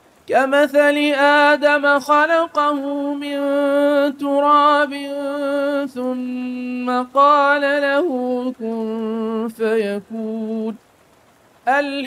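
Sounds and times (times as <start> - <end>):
man chanting recitation: 0.3 - 10.8, 11.6 - 12.0.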